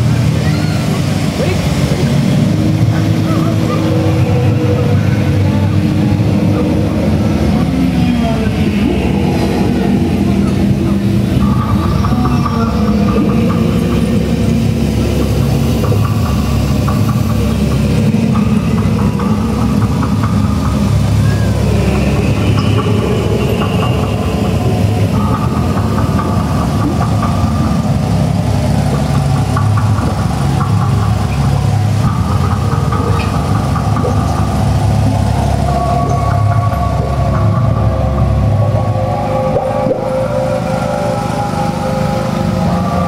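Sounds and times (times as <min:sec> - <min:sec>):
hum: 0:00.0 - 0:43.0
vehicle engine rumbling: 0:00.0 - 0:43.0.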